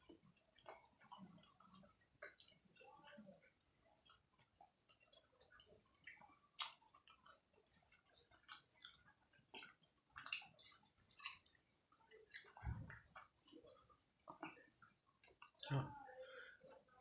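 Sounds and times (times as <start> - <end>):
wet chewing and mouth smacking: 0.0 - 15.7.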